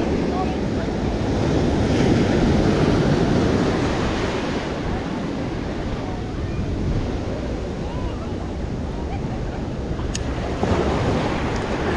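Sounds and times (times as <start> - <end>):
surf breaking on sand: 0.0 - 11.9
wind buffeting microphone: 0.0 - 11.9.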